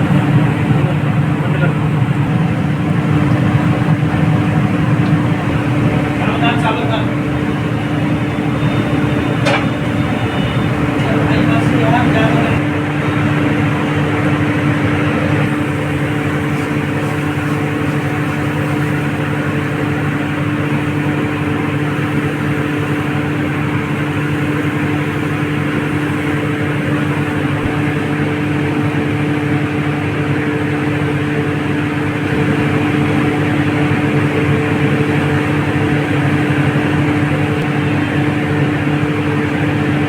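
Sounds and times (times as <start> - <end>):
loud machine drone: 0.0 - 40.0.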